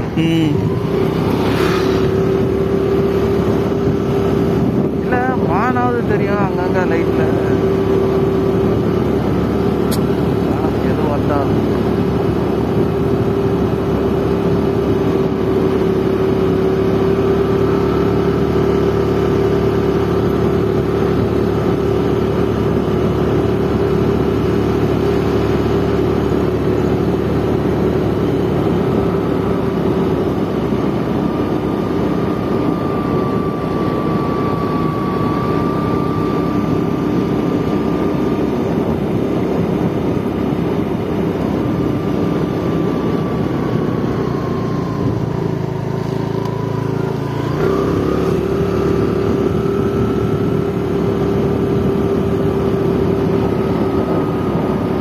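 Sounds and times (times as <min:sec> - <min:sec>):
motorbike engine cruising: 0:00.0 - 0:55.0
wind and road noise: 0:00.0 - 0:55.0.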